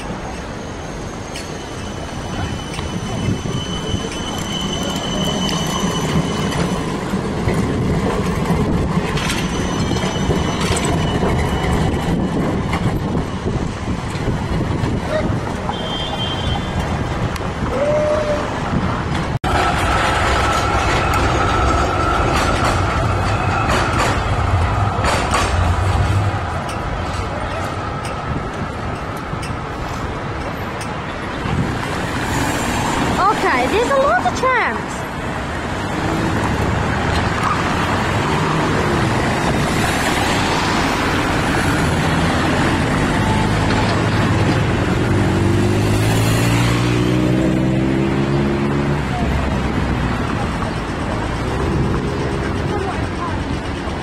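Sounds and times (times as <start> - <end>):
wheels clacking on track: 0.0 - 17.7, 18.8 - 54.0
road traffic passing: 0.0 - 54.0
tram rumbling past: 0.0 - 54.0.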